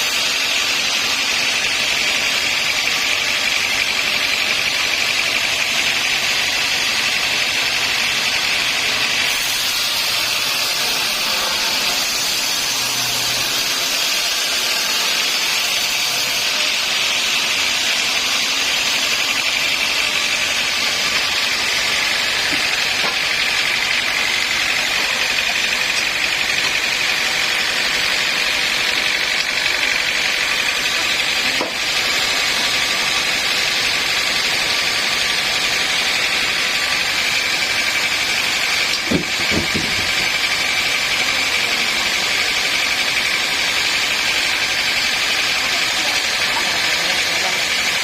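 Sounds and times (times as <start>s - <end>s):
sawmill machinery whining: 0.0s - 48.0s.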